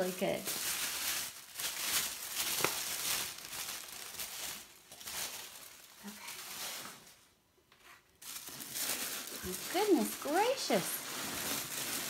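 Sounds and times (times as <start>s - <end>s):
paper packing rustling: 0.5s - 7.2s, 8.0s - 12.0s.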